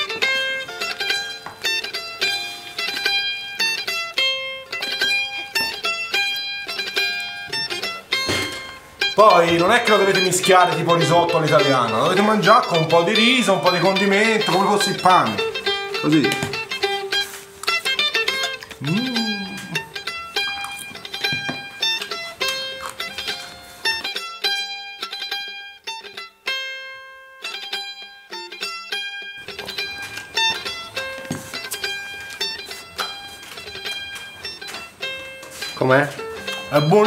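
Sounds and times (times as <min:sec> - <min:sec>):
plucked string instrument music: 0:00.0 - 0:37.0.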